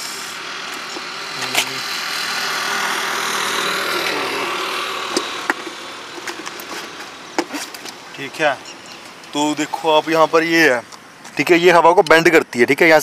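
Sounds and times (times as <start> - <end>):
vehicle passing on road: 0.0 - 11.3.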